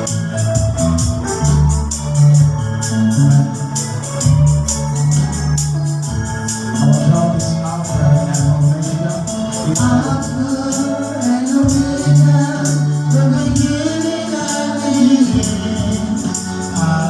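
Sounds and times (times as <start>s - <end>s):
choir singing gospel: 0.0s - 17.0s
keyboard: 0.0s - 17.0s
tambourine beat: 0.0s - 17.0s.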